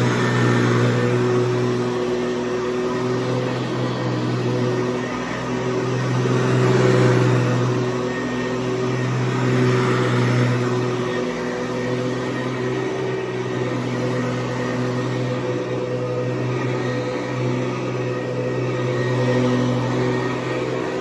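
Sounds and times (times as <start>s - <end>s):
upright vacuum cleaner humming: 0.0s - 21.0s.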